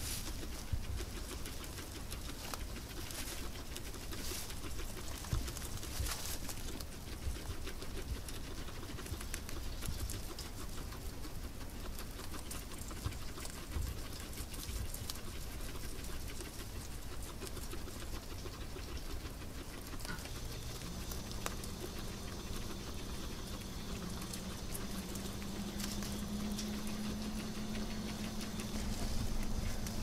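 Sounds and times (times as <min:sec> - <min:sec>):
faint steady hum: 0:00.0 - 0:30.0
guinea pigs chewing hay: 0:00.0 - 0:30.0.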